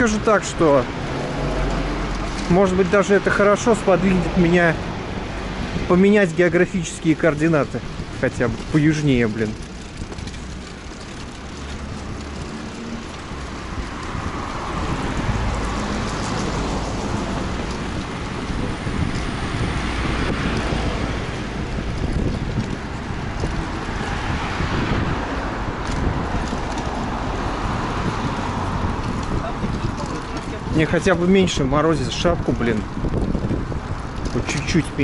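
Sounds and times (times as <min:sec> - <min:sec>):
cars passing: 0:00.0 - 0:35.0
wind buffeting microphone: 0:00.0 - 0:35.0.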